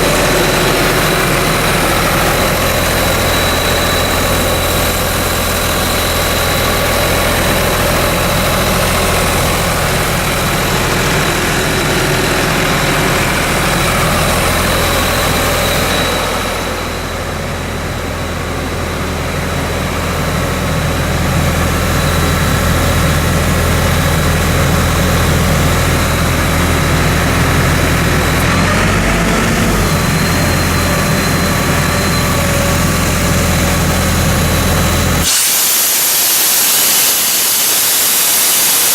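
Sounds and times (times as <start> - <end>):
diesel engine running: 0.0 - 35.3
constant high whine: 0.0 - 38.9.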